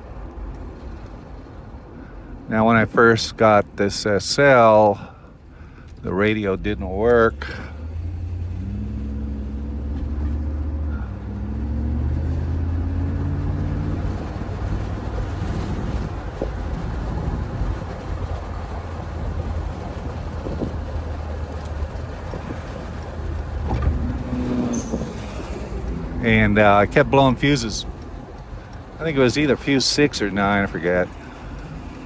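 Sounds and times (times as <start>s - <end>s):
car engine: 0.0s - 32.0s
road and tyre rumble: 0.0s - 32.0s.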